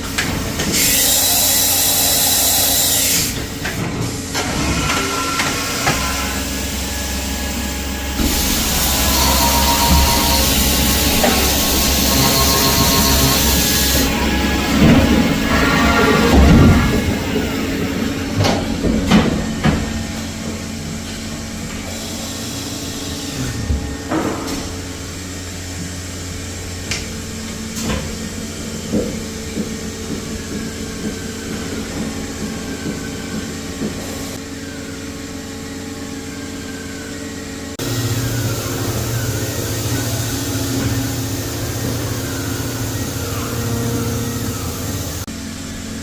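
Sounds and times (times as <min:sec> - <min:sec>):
milling machine spindle hum: 0:04.2 - 0:45.9.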